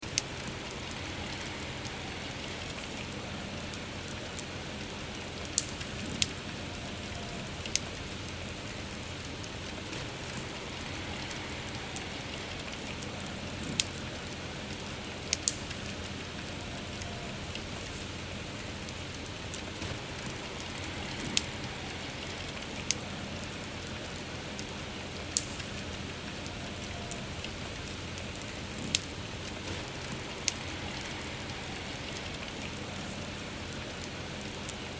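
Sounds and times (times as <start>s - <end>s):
campfire crackling and popping: 0.0s - 34.9s
steady rain falling: 0.0s - 34.9s.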